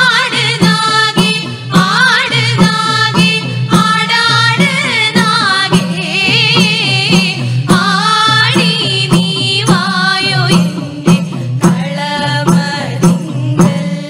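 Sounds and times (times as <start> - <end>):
percussion beat: 0.0 - 14.0
woman singing folk song: 0.0 - 14.0.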